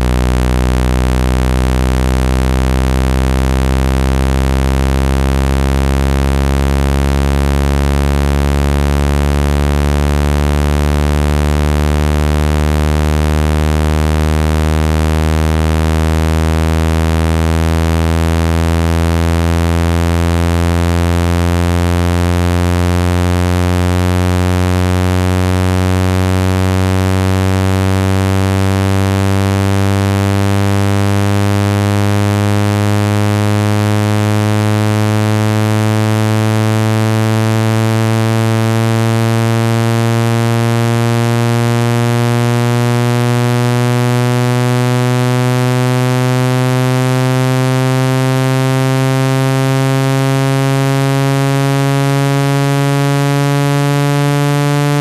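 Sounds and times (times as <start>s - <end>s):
low buzzy tone rising in pitch: 0.0s - 55.0s.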